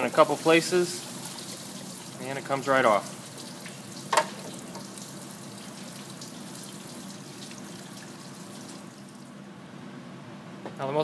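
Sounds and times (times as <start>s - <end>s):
coolant trickling and dripping: 0.0s - 9.4s.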